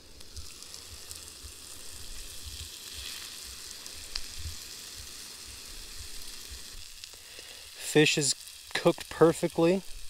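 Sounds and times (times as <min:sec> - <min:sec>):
fish and potatoes sizzling in pan: 0:00.0 - 0:10.0.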